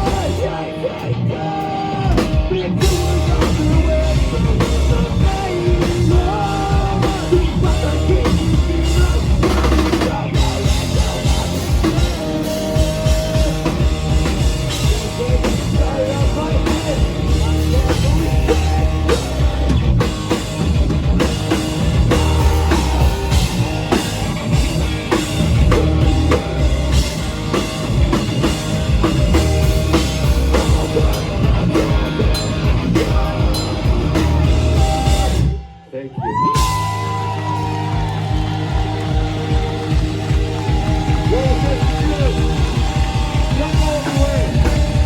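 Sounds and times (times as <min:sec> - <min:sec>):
drum kit beat: 0:00.0 - 0:00.6, 0:02.0 - 0:35.6, 0:36.4 - 0:45.0
rock band playing live: 0:00.0 - 0:45.0.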